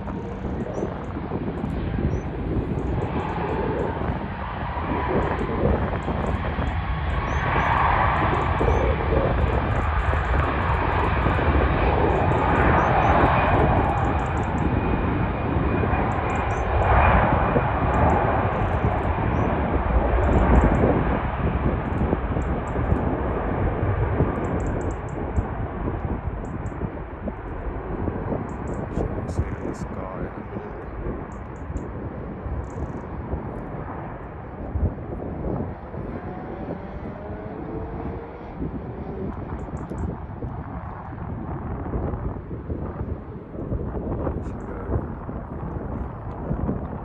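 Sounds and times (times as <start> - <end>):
aircraft engines running: 0.0 - 47.0
wind buffeting microphone: 0.0 - 47.0.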